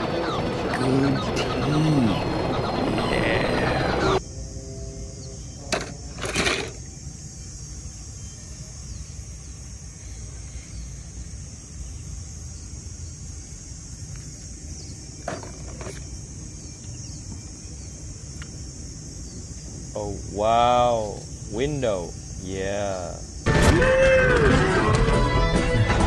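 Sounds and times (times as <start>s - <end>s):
insects chirring: 0.0s - 24.8s.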